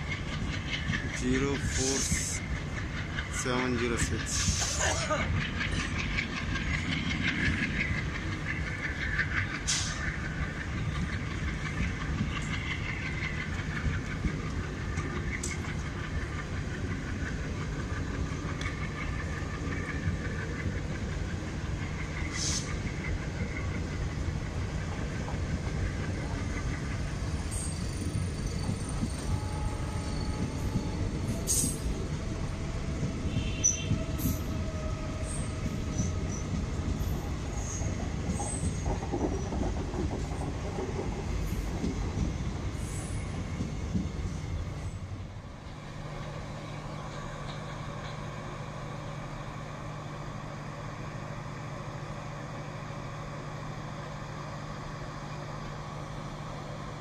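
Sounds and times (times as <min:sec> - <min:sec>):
diesel locomotive idling hum: 0:00.0 - 0:57.0
train coaches rumbling past: 0:00.0 - 0:57.0.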